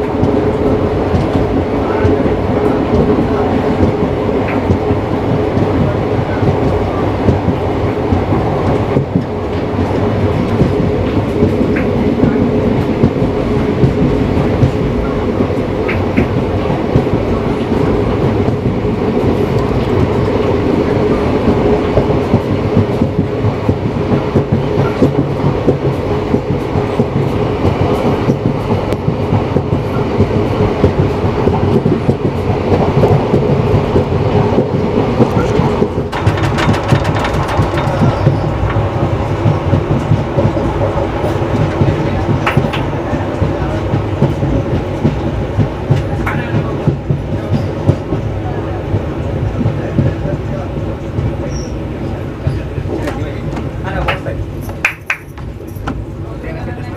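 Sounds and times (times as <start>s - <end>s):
train rumbling along track: 0.0s - 56.9s
wheels clacking on rails: 0.0s - 56.9s.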